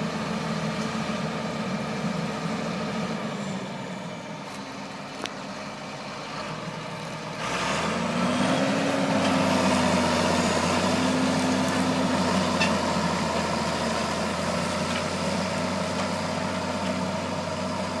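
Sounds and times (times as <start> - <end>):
tractor diesel engine revving: 0.0 - 18.0.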